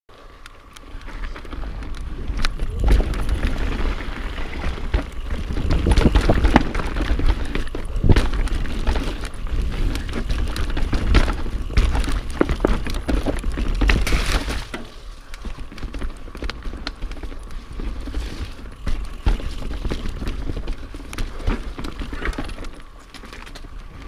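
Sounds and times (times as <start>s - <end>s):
tyres rolling over dirt: 0.1s - 24.0s
wind rumbling on microphone: 0.1s - 24.0s
bike knocks and rattles: 1.0s - 24.0s.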